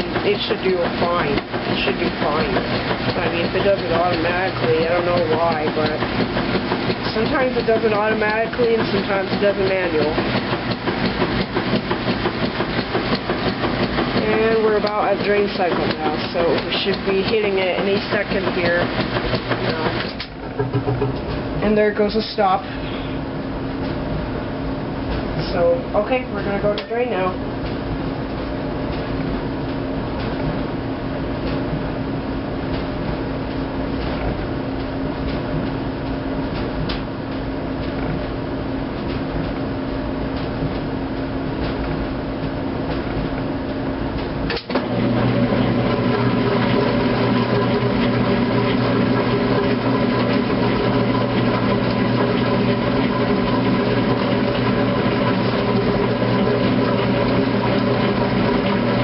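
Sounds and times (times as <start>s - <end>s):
drain motor running: 0.0s - 59.0s
washing machine humming: 0.0s - 59.0s.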